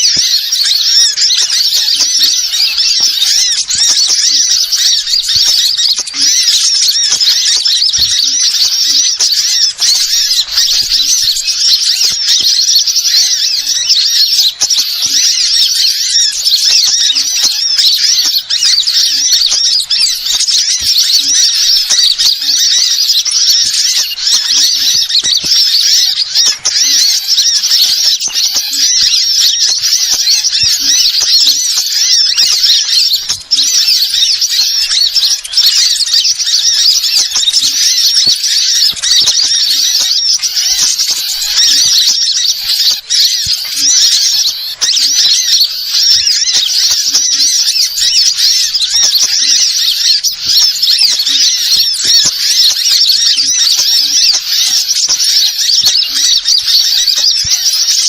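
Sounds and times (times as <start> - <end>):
rapid high-pitched bird chirping: 0.0 - 58.0.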